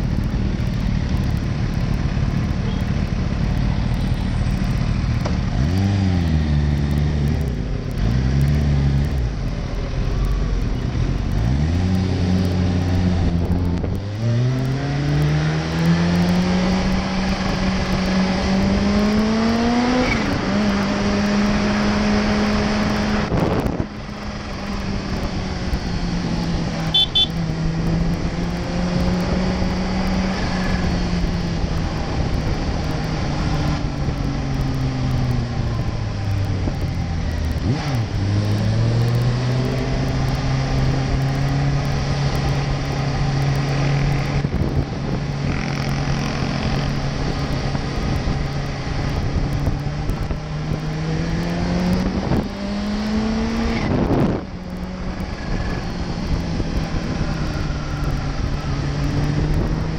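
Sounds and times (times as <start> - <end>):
motorcycle engine revving: 0.0 - 9.5, 10.2 - 59.9.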